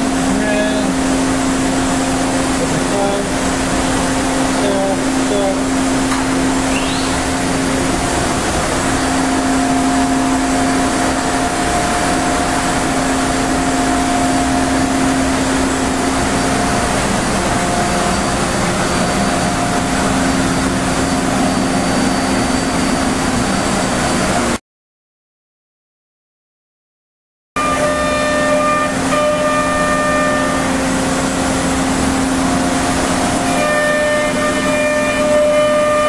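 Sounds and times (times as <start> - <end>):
router spindle humming and whining: 0.0 - 24.5, 27.6 - 36.0
loud rushing noise: 0.0 - 24.6, 28.8 - 36.0.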